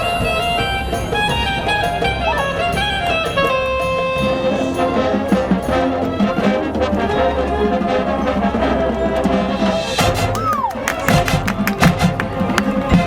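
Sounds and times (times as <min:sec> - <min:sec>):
brass sustained notes: 0:00.0 - 0:13.0
drums and percussion: 0:00.0 - 0:13.0
marching band playing: 0:00.0 - 0:13.0.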